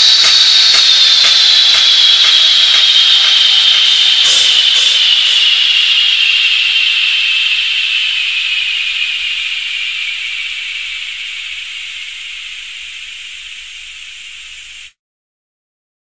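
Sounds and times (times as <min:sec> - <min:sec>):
high steady hiss: 0:00.0 - 0:15.0.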